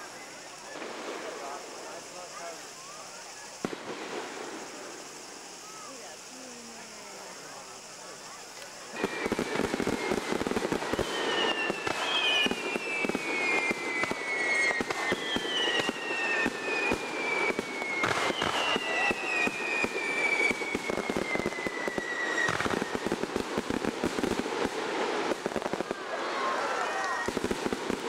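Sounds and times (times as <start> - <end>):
fireworks crackling and banging: 0.0 - 28.0
fireworks whistling downward: 0.0 - 28.0.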